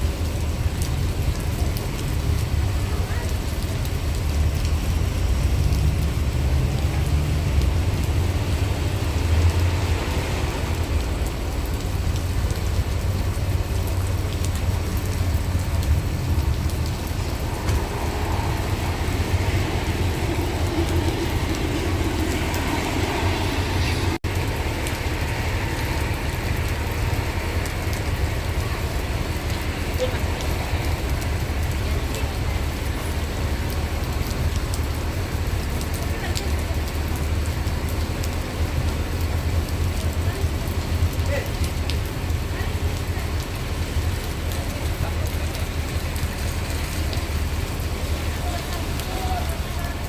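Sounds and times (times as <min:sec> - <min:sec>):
heavy rain falling: 0:00.0 - 0:50.0
low rumble of wind: 0:00.0 - 0:50.0
vehicles rumbling: 0:00.0 - 0:50.0.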